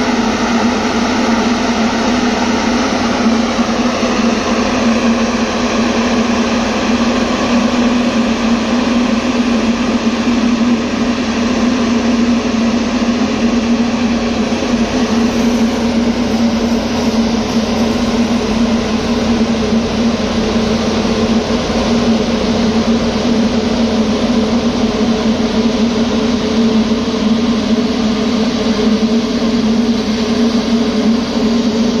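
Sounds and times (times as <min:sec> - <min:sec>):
mist cannon fan drone: 0:00.0 - 0:32.0.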